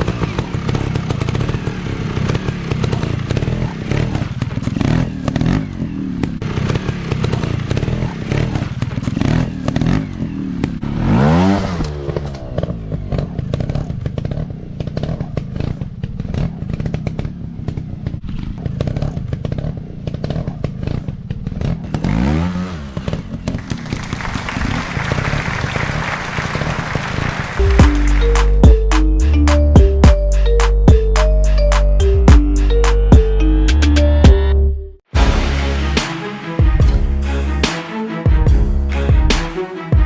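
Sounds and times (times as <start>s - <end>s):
dirt bike engine revving: 0.0s - 34.6s.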